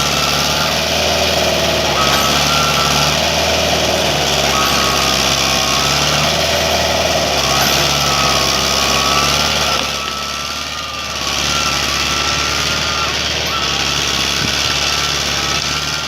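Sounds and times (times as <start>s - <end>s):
high wavering whine: 0.0s - 16.0s
tractor diesel engine running: 0.0s - 16.0s.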